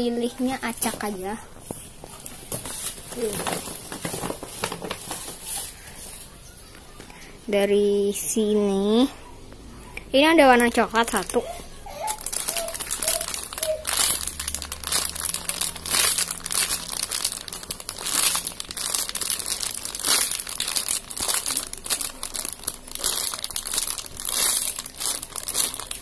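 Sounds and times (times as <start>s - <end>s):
plastic packaging crinkling: 0.2s - 6.5s, 10.4s - 26.0s.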